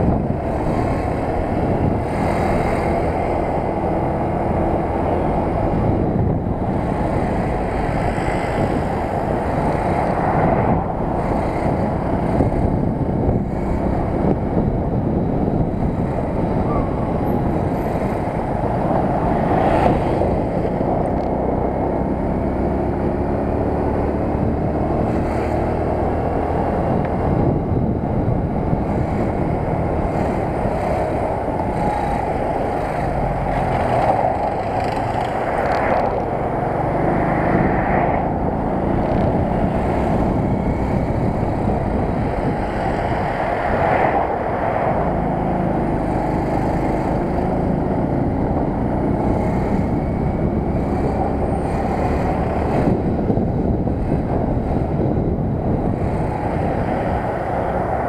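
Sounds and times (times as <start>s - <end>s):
road noise: 0.0s - 58.0s
wind rush: 0.0s - 58.0s.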